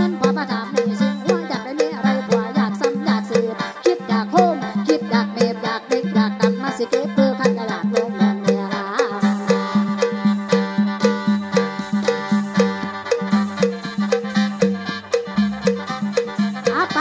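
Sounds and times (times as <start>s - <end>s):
bamboo mouth organ chords: 0.0s - 17.0s
light percussion beat: 0.0s - 17.0s.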